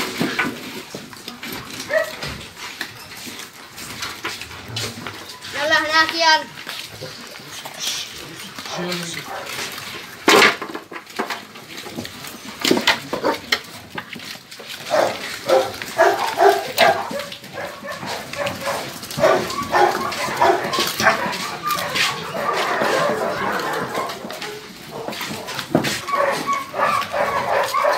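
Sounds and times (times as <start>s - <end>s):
sharp knocks and clatter: 0.0s - 7.0s, 9.0s - 27.9s
dogs barking and whining: 1.4s - 10.2s, 11.9s - 27.9s.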